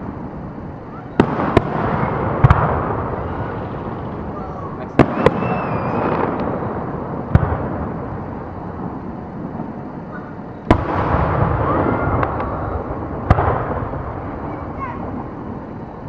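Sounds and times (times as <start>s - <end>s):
rumble of firework shells: 0.0s - 16.0s
sharp firework bangs: 0.0s - 16.0s.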